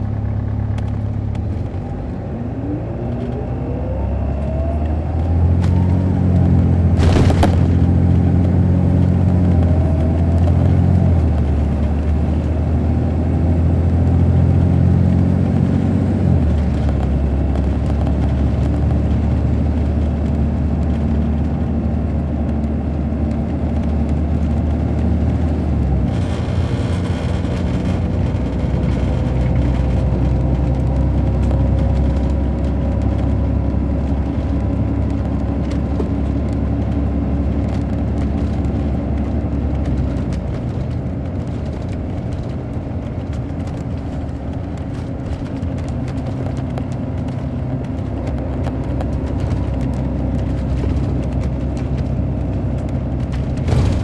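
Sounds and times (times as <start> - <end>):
diesel bus engine: 0.0 - 54.0.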